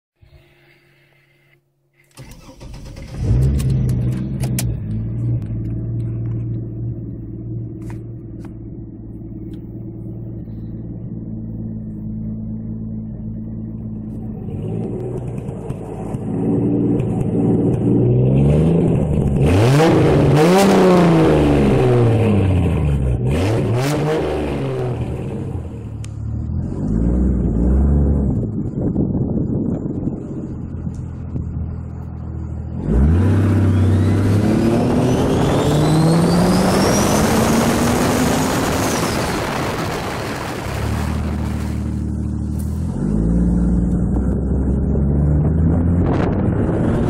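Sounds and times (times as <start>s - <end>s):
car engine starting and idling: 0.2s - 47.0s
engine revving: 2.2s - 47.0s.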